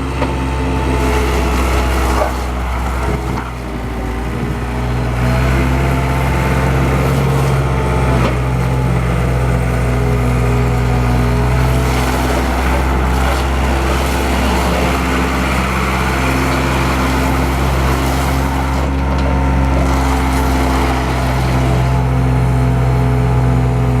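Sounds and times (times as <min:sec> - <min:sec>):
skid steer engine running: 0:00.0 - 0:24.0.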